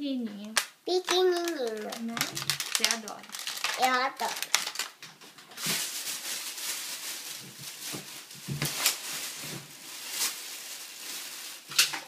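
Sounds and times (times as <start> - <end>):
plastic bags rustling: 0.4 - 12.0.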